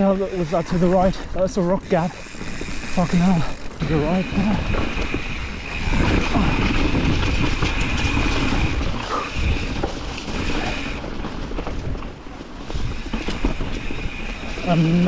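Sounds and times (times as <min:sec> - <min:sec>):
bike rattling: 0:00.0 - 0:15.0
bike tyres rumbling over rock: 0:00.0 - 0:15.0.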